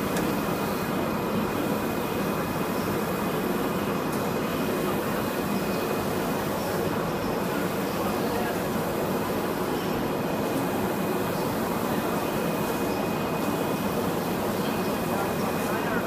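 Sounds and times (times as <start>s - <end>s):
exhibition hall noise: 0.0s - 16.0s
printer carriage whirring: 0.0s - 16.0s.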